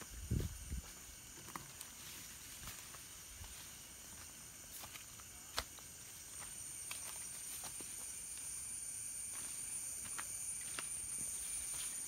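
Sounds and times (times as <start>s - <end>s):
high-pitched insect drone: 0.0s - 12.0s
footsteps through grass: 0.2s - 8.6s, 9.2s - 12.0s.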